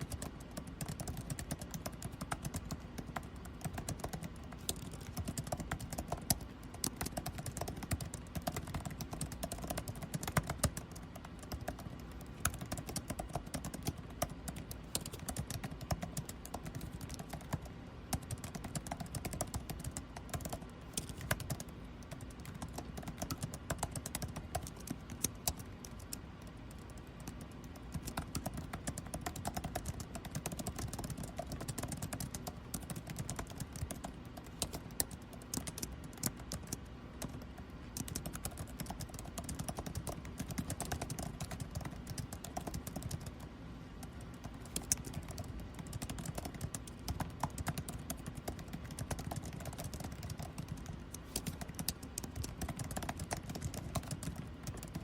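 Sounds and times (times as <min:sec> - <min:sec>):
air conditioning hum: 0:00.0 - 0:55.0
computer keyboard typing: 0:00.0 - 0:55.0.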